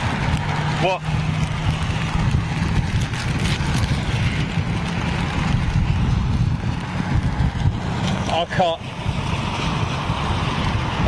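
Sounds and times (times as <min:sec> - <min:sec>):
heavy rain pelting down: 0:00.0 - 0:11.0
raindrops tapping: 0:00.0 - 0:11.0
wind buffeting microphone: 0:00.0 - 0:11.0.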